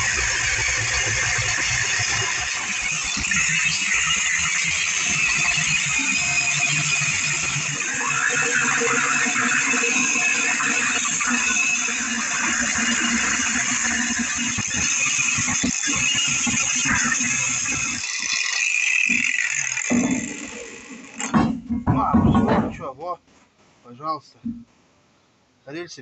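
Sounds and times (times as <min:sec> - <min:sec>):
angle grinder cutting metal: 0:00.0 - 0:21.7.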